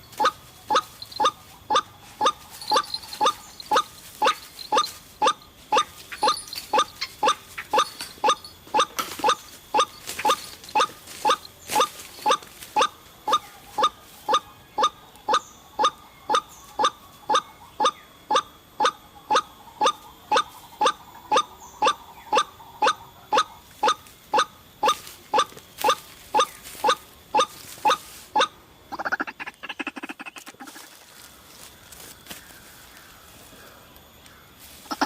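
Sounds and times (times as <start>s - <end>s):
waterhen calling: 0.0s - 30.9s.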